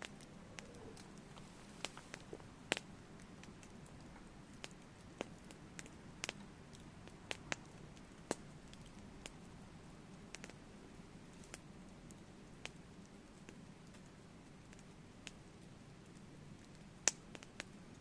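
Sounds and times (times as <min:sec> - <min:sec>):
faint steady low hiss: 0:00.0 - 0:18.0
wood fire crackling: 0:00.0 - 0:18.0.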